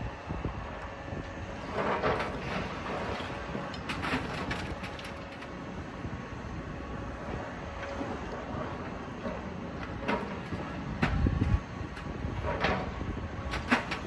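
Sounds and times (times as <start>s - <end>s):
heavy demolition machinery running: 0.0s - 14.0s.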